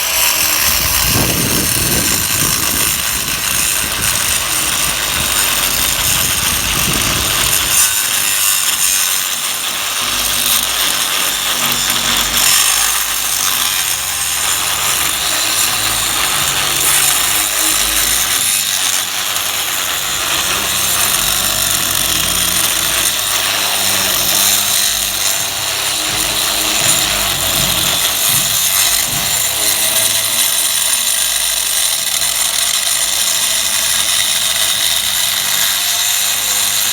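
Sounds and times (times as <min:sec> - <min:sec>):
power tool cutting into wall: 0:00.0 - 0:36.9.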